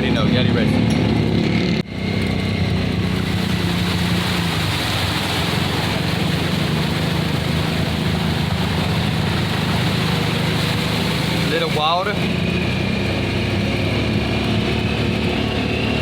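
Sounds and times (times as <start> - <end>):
atv engine running: 0.0 - 16.0
water hissing and splashing: 2.4 - 16.0.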